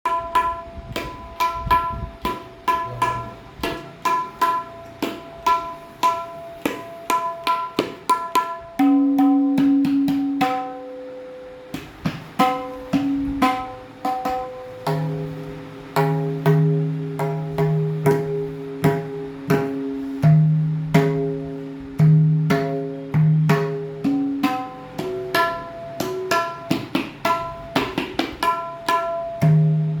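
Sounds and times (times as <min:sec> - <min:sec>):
tabla strokes: 0:00.1 - 0:30.0.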